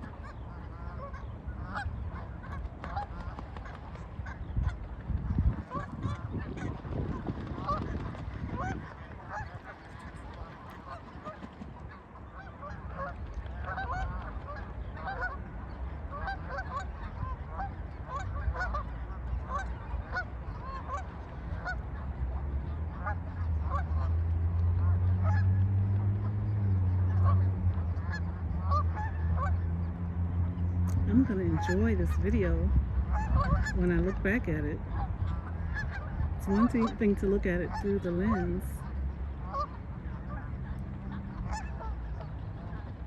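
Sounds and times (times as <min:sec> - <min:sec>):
geese honking: 0:00.0 - 0:43.0
low steady rumble: 0:00.0 - 0:43.0.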